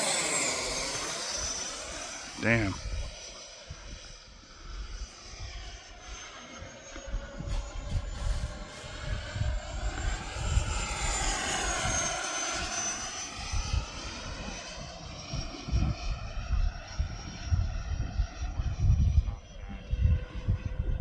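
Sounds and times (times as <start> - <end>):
model jet flying past whining: 0.0 - 21.0
wind rumbling on microphone: 0.0 - 21.0.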